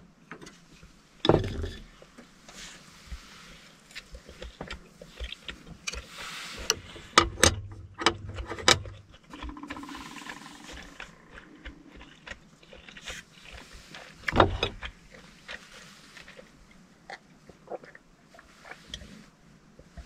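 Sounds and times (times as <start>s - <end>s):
close chewing: 2.7s - 20.0s.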